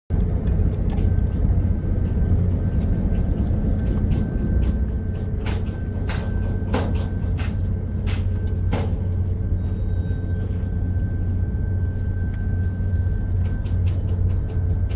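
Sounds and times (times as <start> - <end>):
low engine rumble: 0.1 - 14.9.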